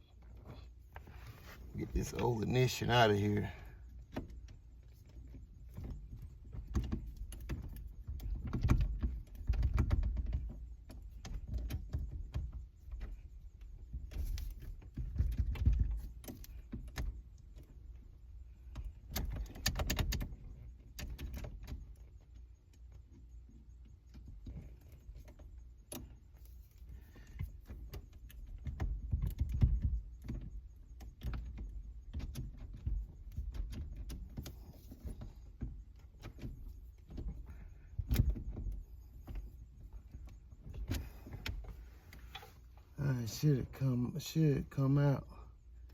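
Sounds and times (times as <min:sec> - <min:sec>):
low rumble of handling: 0:00.0 - 0:45.9.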